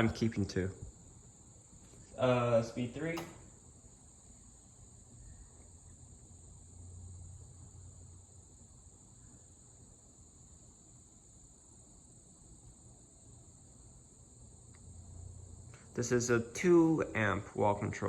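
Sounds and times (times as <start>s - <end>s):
ceiling fans humming: 0.0s - 18.0s
insects trilling: 0.0s - 18.0s.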